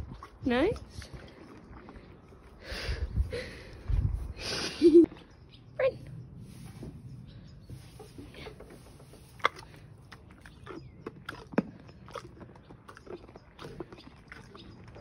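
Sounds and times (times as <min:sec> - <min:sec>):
horse chewing: 0:00.0 - 0:03.9, 0:06.5 - 0:15.0.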